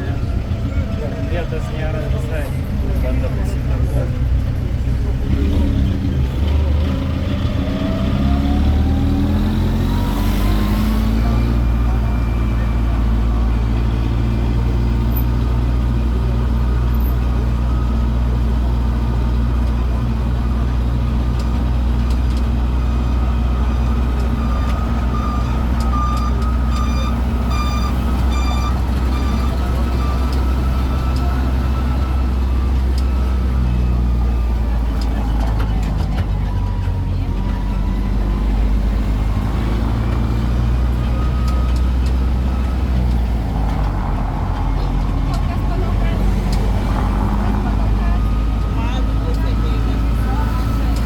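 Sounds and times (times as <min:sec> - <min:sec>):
rising engine whine: 0:00.0 - 0:16.1, 0:22.1 - 0:51.0.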